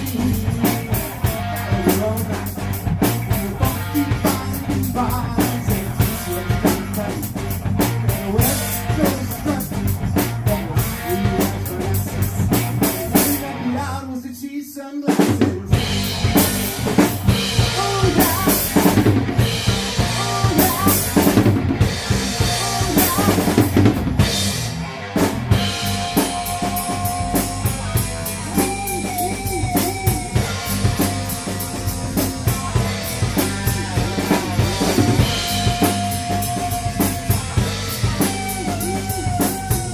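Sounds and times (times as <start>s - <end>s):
instrumental rock music: 0.0s - 14.2s, 15.1s - 39.9s.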